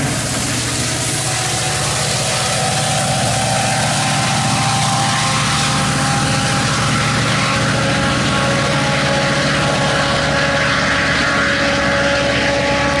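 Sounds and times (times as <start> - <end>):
locomotive diesel engine drone: 0.0 - 13.0.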